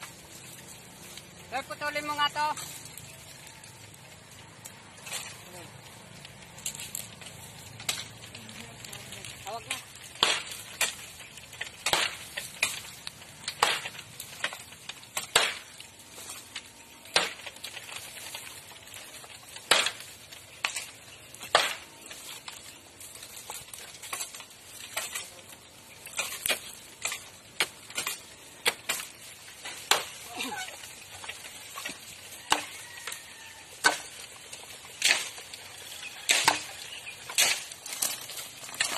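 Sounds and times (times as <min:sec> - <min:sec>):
constant rustling: 0:00.0 - 0:38.9.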